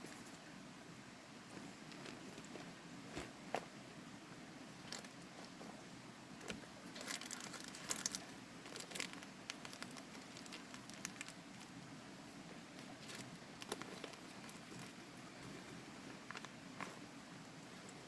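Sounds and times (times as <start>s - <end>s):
faint background hiss: 0.0s - 18.0s
light crackling and rustling: 1.4s - 3.8s, 4.8s - 18.0s.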